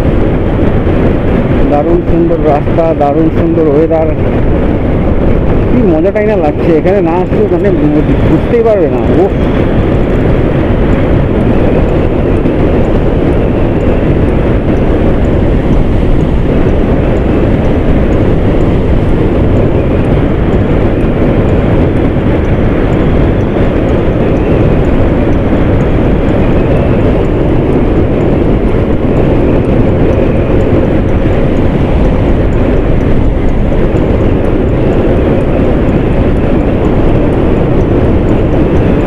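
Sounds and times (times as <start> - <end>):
motorcycle engine and tyre noise: 0.0 - 39.0
wind rushing over microphone: 0.0 - 39.0.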